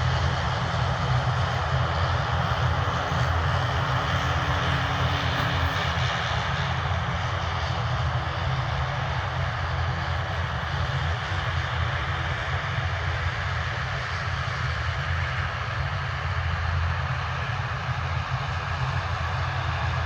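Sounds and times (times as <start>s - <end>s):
aircraft engines rumbling: 0.0s - 20.0s.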